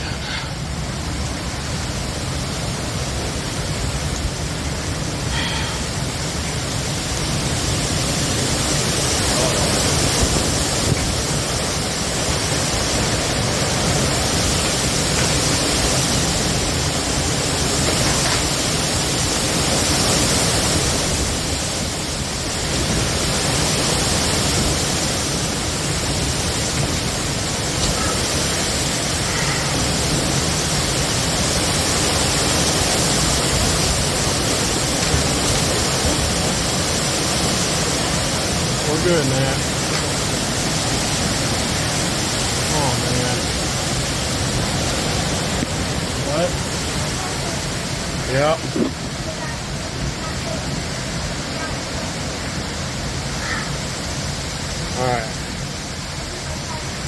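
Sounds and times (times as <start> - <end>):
heavy rain: 0.0 - 57.0
strong wind: 0.0 - 57.0.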